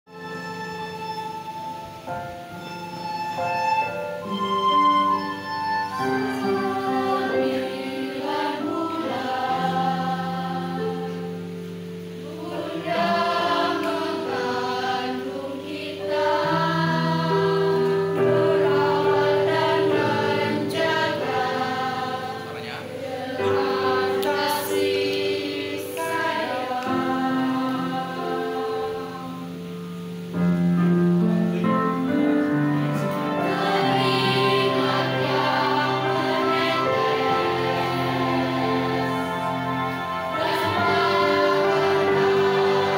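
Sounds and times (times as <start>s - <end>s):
keyboard chords: 0.1s - 42.9s
girls choir singing: 5.9s - 30.2s, 31.5s - 42.9s.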